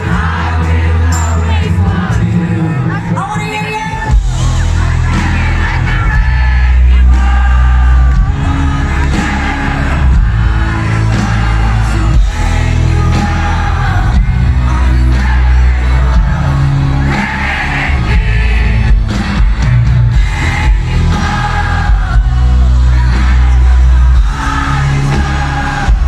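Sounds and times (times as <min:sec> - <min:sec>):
live band with heavy bass: 0:00.0 - 0:26.0.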